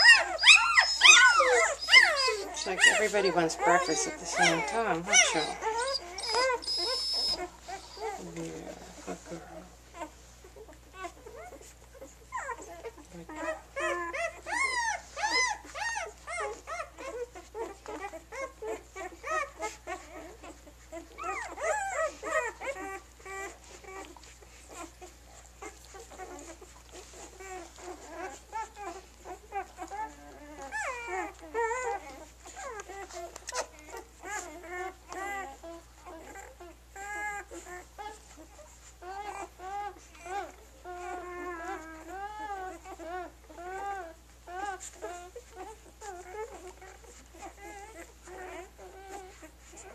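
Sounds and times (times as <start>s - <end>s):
puppies squeaking and whimpering: 0.0s - 49.9s.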